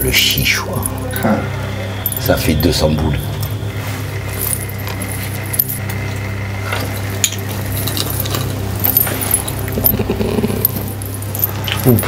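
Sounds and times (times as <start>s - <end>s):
steady low hum: 0.0s - 12.0s
chain and beads clinking: 2.0s - 12.0s.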